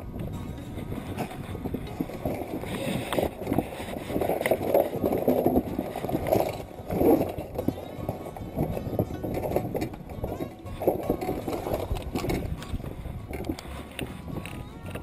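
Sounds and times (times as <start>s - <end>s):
clothing rubbing microphone: 0.7s - 15.0s
handling knocks and clicks: 1.1s - 15.0s.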